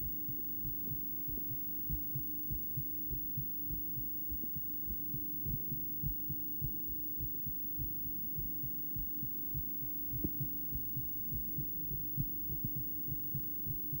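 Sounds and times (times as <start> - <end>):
continuous hum: 0.0 - 14.0
heartbeat thumps: 0.0 - 14.0.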